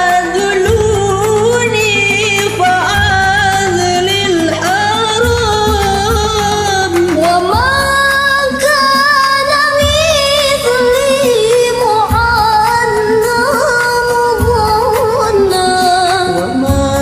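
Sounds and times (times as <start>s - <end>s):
karaoke backing track: 0.0s - 17.0s
woman singing: 0.0s - 17.0s.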